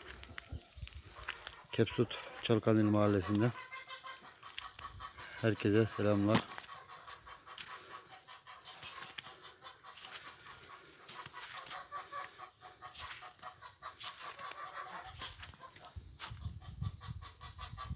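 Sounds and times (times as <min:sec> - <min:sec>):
chickens clucking: 0:00.0 - 0:17.9.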